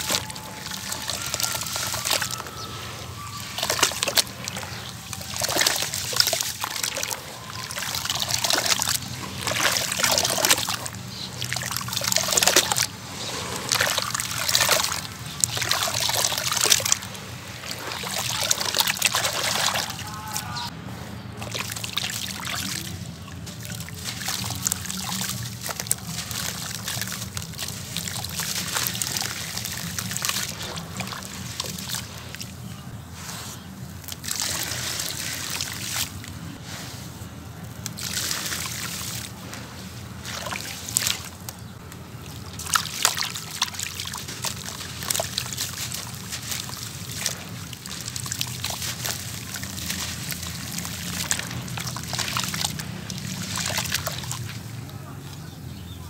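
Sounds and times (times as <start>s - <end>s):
water sloshing and trickling: 0.0s - 56.0s.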